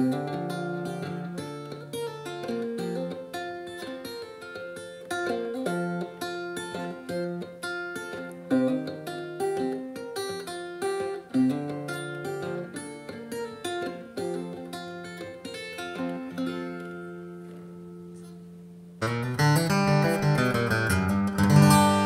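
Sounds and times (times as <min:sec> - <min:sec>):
acoustic guitar picked melody: 0:00.0 - 0:22.0.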